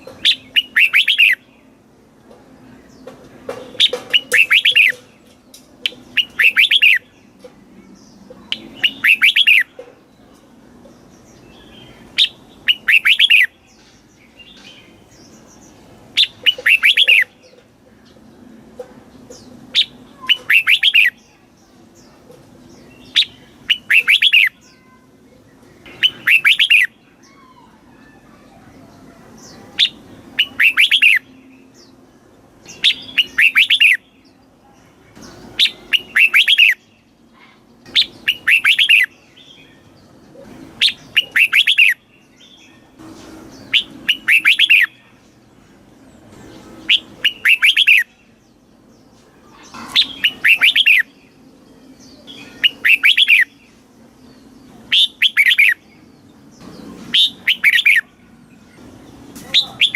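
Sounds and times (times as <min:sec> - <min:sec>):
bird singing warbled phrases: 0:00.0 - 0:59.9.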